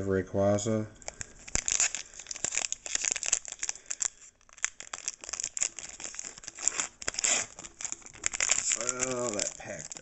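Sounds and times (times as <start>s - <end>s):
foil wrapper crinkling: 1.0s - 10.0s.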